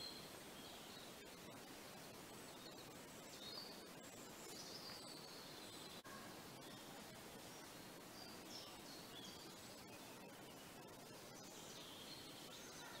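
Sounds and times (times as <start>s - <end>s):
outdoor hiss: 0.0s - 13.0s
faint high bird chirps: 2.3s - 13.0s.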